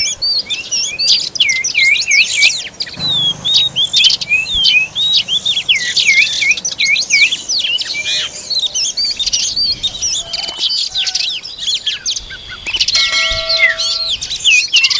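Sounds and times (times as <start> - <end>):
bird song whistles and chirps: 0.0 - 14.9.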